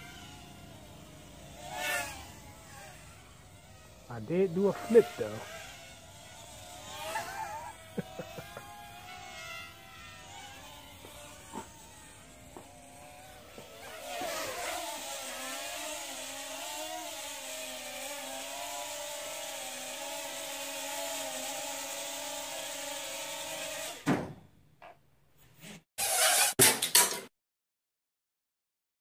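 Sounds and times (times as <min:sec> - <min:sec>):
quadcopter propellers buzzing: 0:00.0 - 0:24.2.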